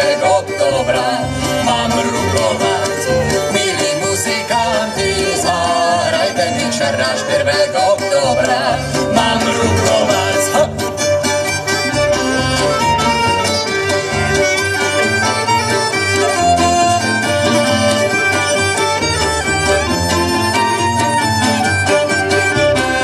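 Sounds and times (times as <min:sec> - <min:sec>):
instrumental music: 0:00.0 - 0:23.0.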